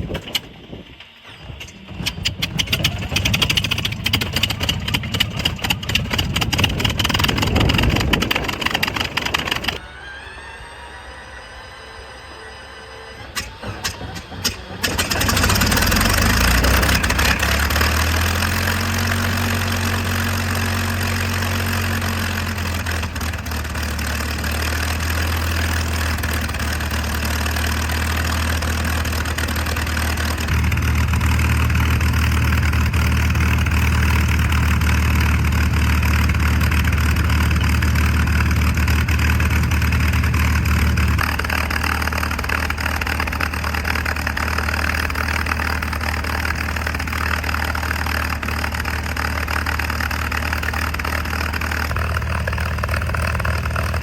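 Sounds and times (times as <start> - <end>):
aircraft engine running: 0.0 - 54.0.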